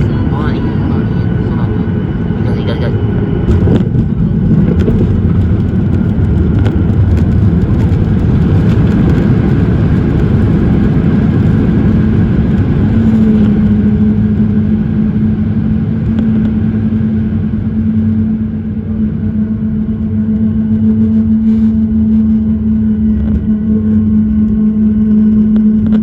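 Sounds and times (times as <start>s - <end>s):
airplane cabin roar: 0.0s - 26.0s
steady hum tone: 0.0s - 26.0s.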